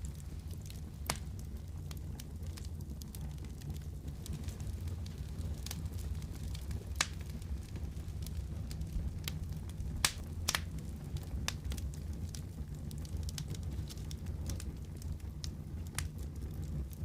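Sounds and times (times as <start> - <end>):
fireplace fire crackling: 0.0 - 17.0.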